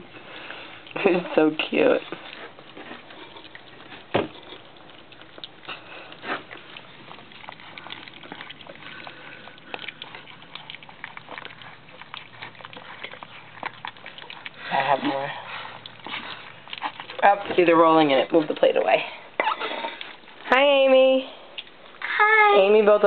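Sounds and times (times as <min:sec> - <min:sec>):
puppies lapping wet food: 0:00.0 - 0:23.0.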